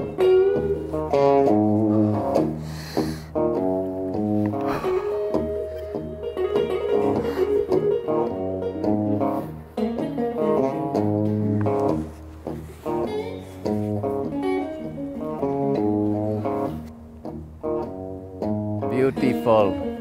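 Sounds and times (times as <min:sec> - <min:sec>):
low bass notes: 0:00.0 - 0:09.8, 0:10.4 - 0:20.0
plucked guitar melody: 0:00.0 - 0:20.0.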